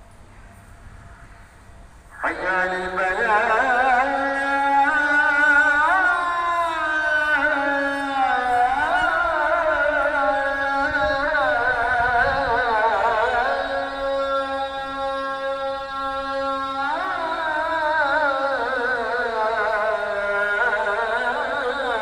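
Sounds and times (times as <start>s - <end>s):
person chanting unaccompanied: 2.1s - 22.0s.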